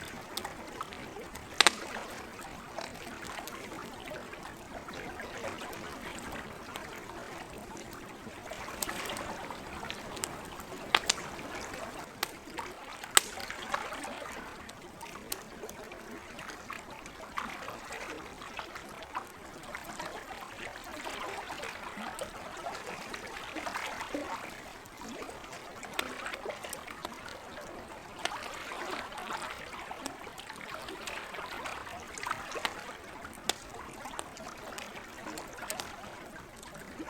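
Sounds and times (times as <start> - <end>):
campfire crackling and popping: 0.0 - 37.0
lake water lapping: 0.0 - 37.0.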